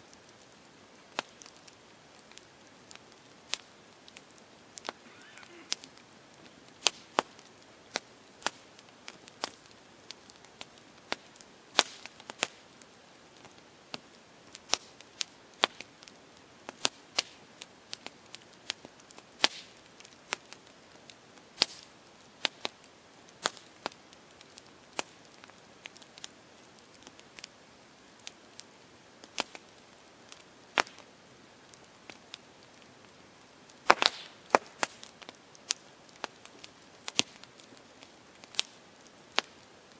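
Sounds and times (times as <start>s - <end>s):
campfire crackling: 0.0s - 39.9s
faint fire hiss: 0.0s - 39.9s.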